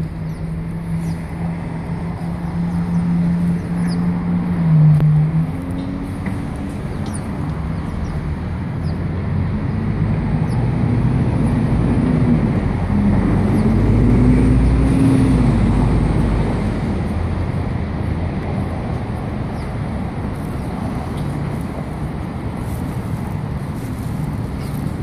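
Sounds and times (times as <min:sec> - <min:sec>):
road noise: 0:00.0 - 0:25.0
vehicle engine rumbling past: 0:00.0 - 0:25.0.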